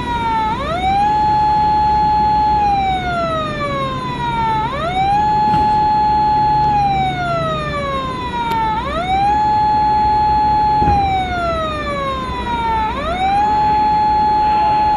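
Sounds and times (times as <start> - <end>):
police car siren wailing: 0.0 - 14.9.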